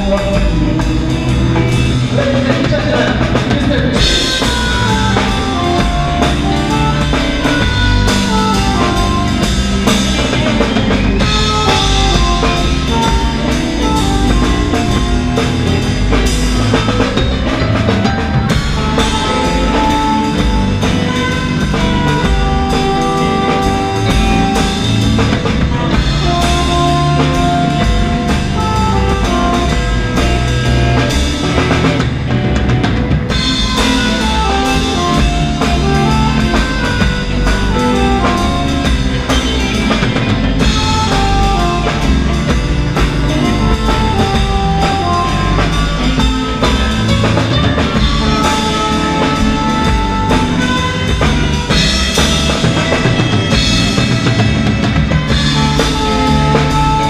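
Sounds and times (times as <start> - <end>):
alto saxophone melody: 0.0 - 57.0
drum kit: 0.0 - 57.0
electric bass: 0.0 - 57.0
electric guitar: 0.0 - 57.0.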